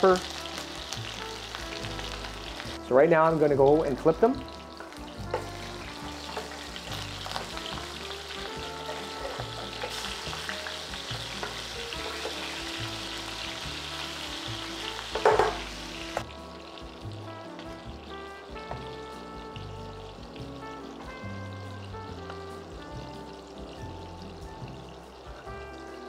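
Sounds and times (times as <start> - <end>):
meat sizzling in a frying pan: 0.0 - 26.0
soft background music: 0.0 - 26.0.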